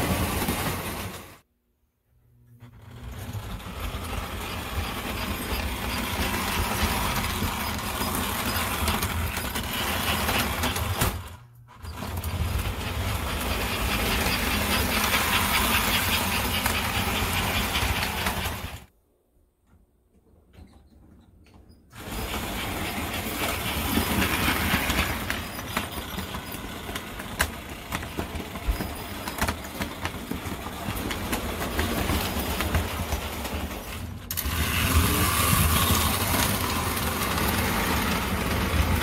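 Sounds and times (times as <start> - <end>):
model train motor rumble: 2.6 - 18.9, 22.0 - 39.0
rapid wheel clatter: 2.7 - 18.9, 22.0 - 39.0.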